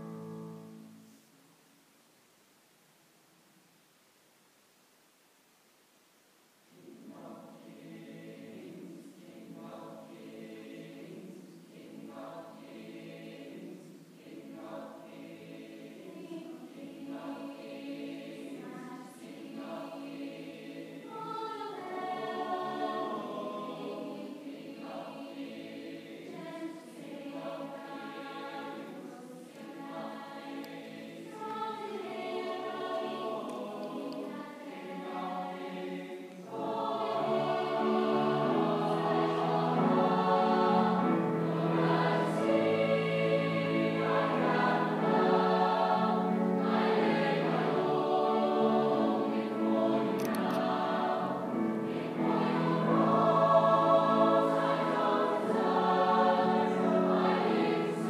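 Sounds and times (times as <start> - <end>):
choir singing chords: 0.0 - 1.2, 6.7 - 58.0.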